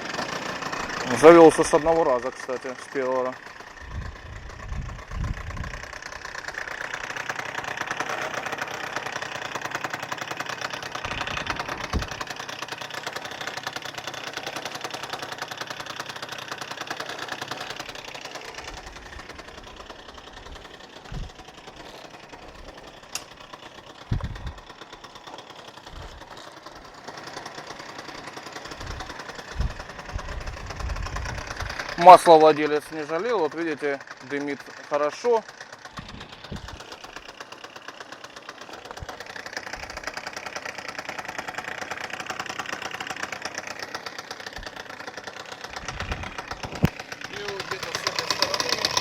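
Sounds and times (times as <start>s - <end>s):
scooter engine rattling knock: 0.0s - 49.0s.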